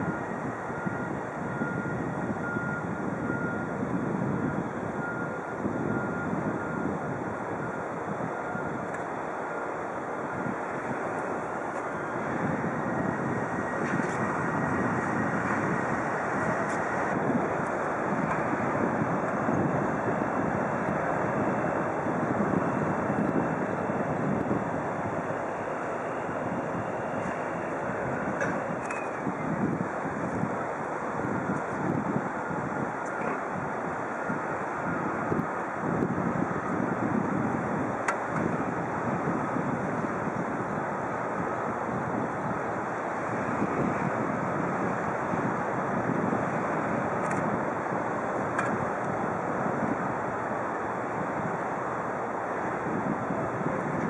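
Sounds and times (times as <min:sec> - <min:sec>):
wind on microphone: 0:00.0 - 0:09.0, 0:09.9 - 0:54.0
low harbour rumble: 0:00.0 - 0:54.0.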